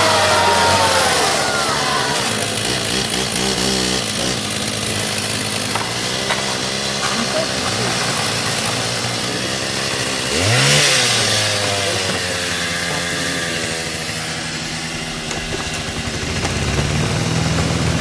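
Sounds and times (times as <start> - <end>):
engine revving: 0.0 - 18.0.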